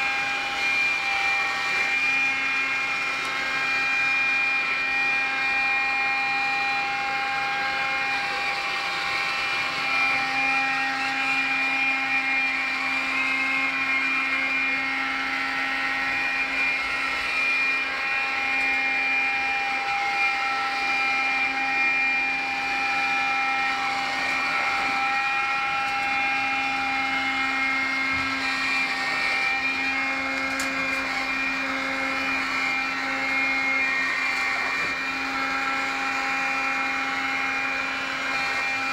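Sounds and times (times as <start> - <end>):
cleaning robot motor whine: 0.0 - 38.9.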